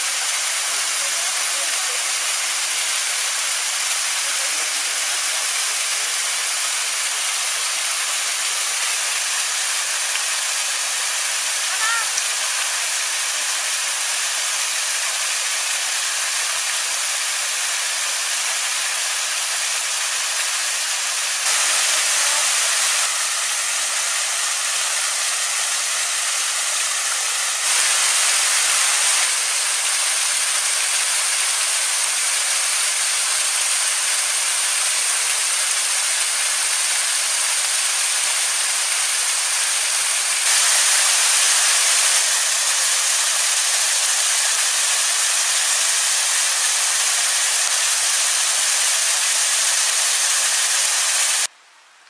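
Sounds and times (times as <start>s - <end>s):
loud rushing hiss: 0.0s - 51.5s.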